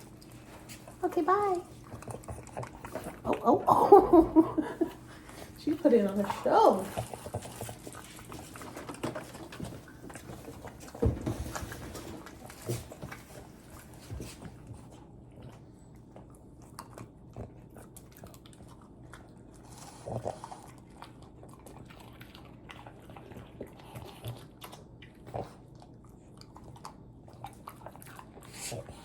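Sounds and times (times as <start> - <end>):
dog chewing with crunches: 0.0 - 29.0.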